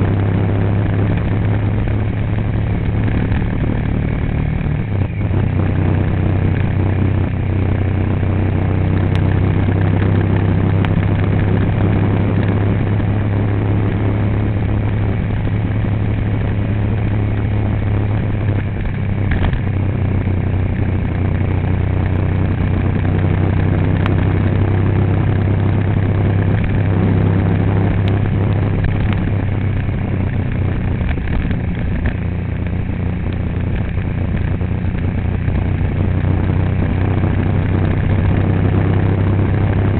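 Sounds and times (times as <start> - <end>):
road noise: 0.0 - 39.9
vehicle engine humming: 0.0 - 39.9.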